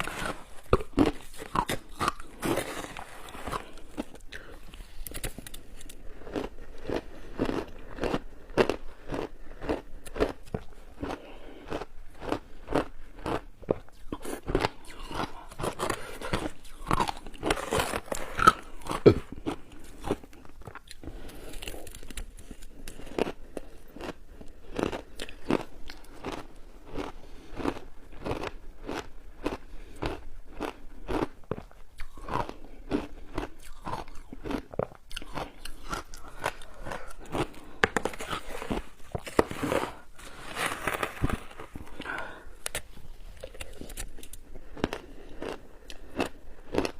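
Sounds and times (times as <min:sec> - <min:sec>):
chewing crunchy shaved ice: 0:00.0 - 0:46.9.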